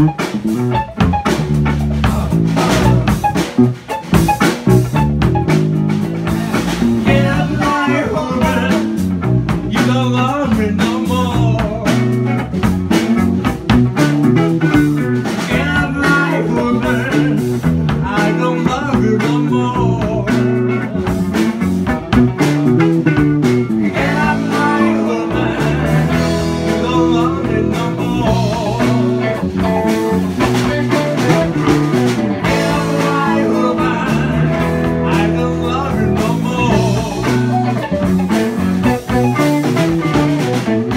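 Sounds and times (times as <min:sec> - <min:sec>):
bass notes: 0:00.0 - 0:40.9
drum kit: 0:00.0 - 0:40.9
electric guitar bent melody: 0:00.0 - 0:40.9.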